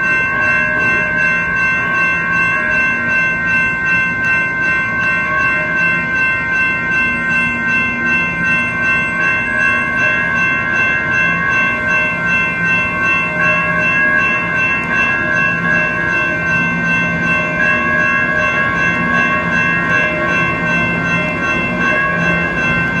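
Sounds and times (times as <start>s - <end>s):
crossing bell ringing: 0.0s - 23.0s.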